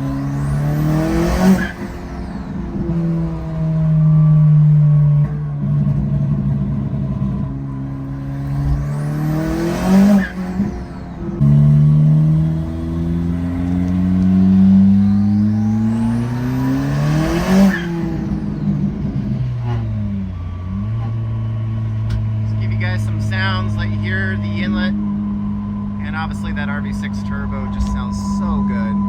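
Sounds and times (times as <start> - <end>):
high turbo whistle: 0.0 - 5.1, 7.4 - 13.7, 14.4 - 29.0
car engine accelerating: 0.0 - 29.0.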